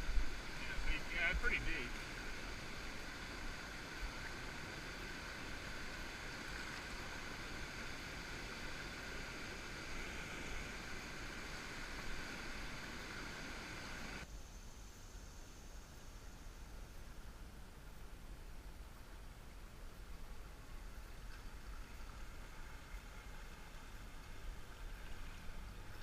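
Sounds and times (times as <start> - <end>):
muffled river water rushing: 0.0 - 26.0.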